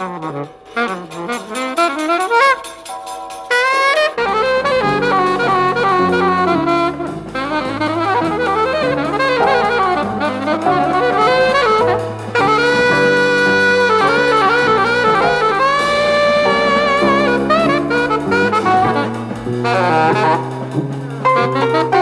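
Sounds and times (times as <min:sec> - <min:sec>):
drums: 0:00.0 - 0:22.0
saxophone melody: 0:00.0 - 0:22.0
walking bass line: 0:04.1 - 0:22.0.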